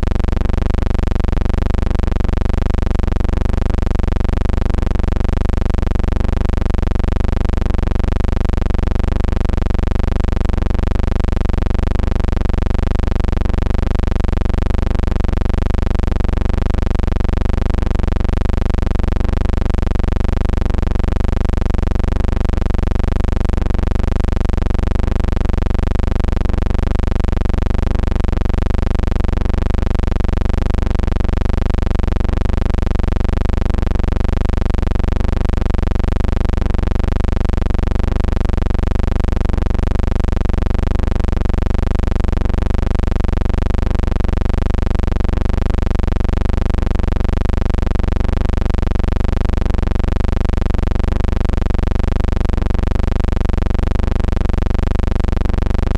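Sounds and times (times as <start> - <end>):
low pulsing hum: 0.0 - 49.0, 49.6 - 55.9.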